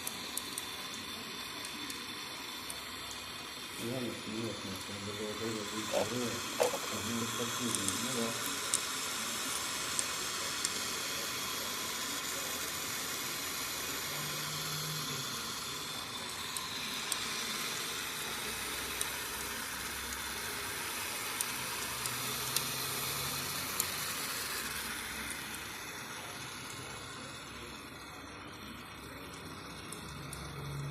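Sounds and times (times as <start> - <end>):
machine hissing steadily: 0.0 - 30.9.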